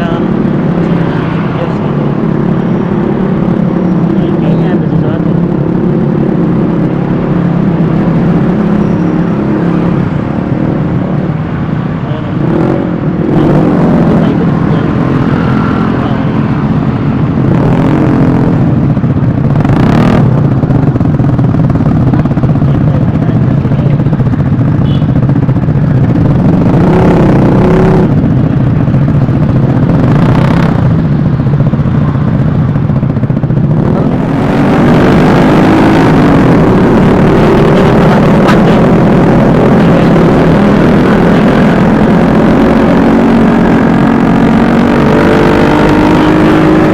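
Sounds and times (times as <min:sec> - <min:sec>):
scooter engine running: 0:00.0 - 0:46.9
wind noise on microphone: 0:00.0 - 0:46.9.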